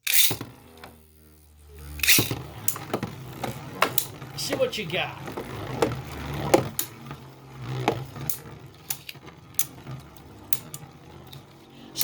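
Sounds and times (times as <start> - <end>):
spinning tops clacking: 0.0 - 12.0
spinning tops whirring: 0.0 - 12.0.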